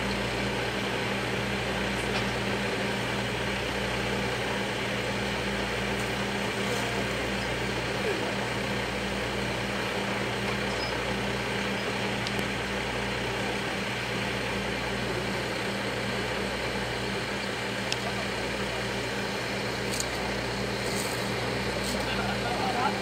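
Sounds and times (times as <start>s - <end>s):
low even hum: 0.0s - 23.0s.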